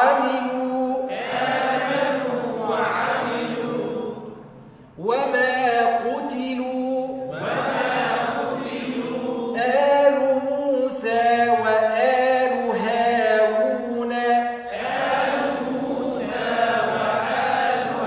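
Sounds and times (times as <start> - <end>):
person chanting recitation: 0.0 - 4.3, 5.0 - 18.0.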